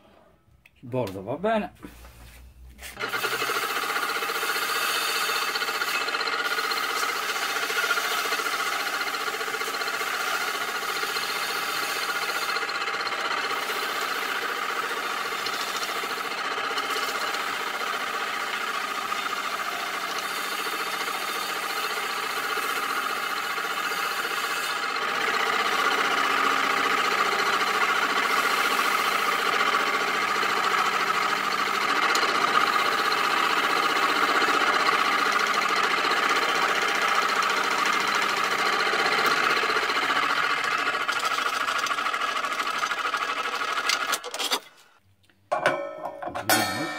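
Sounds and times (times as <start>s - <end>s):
sandpaper rasping on spinning cymbal: 2.8s - 43.8s
lathe motor running: 2.9s - 44.4s.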